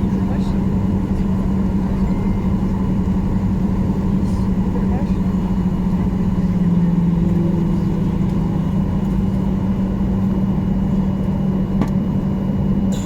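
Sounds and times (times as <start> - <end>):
jet cabin drone: 0.0 - 13.0.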